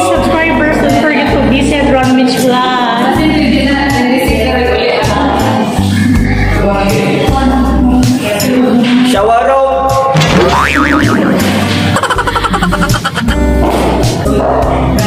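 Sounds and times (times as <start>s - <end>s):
music with singing and bass: 0.0s - 15.0s.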